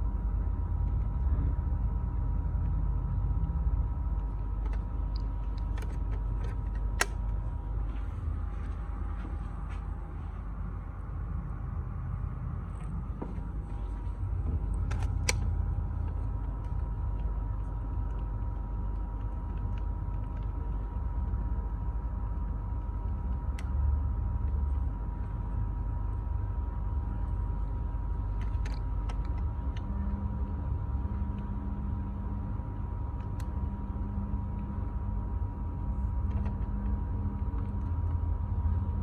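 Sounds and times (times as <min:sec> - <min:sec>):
air conditioner humming: 0:00.0 - 0:39.0.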